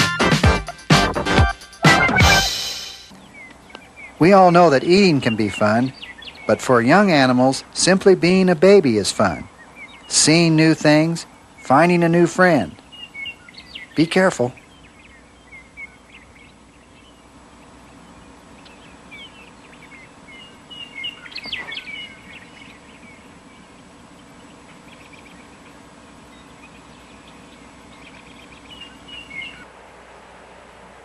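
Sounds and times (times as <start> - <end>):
steady low hum and hiss: 0.0 - 31.0
small birds chirping: 2.0 - 29.8.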